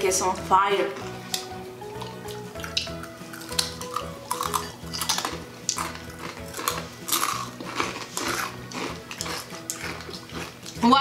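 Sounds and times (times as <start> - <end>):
background music: 0.0 - 11.0
tortilla chips crunching: 1.3 - 11.0.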